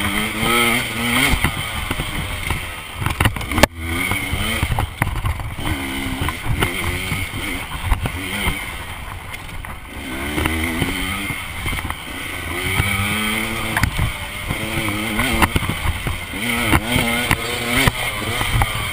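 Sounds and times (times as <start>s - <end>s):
dirt bike engine revving: 0.0s - 18.9s
sharp knocks and rattles: 0.0s - 18.9s.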